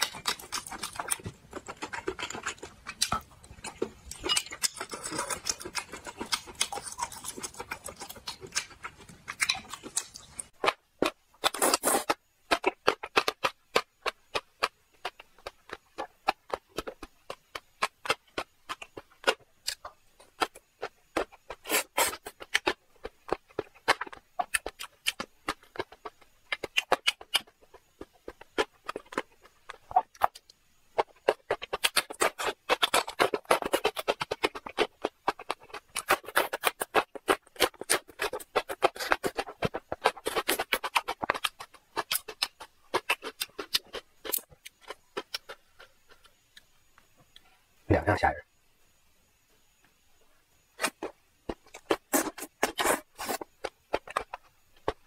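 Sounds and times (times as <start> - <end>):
sucking and chewing food: 0.0 - 47.6, 50.6 - 55.0.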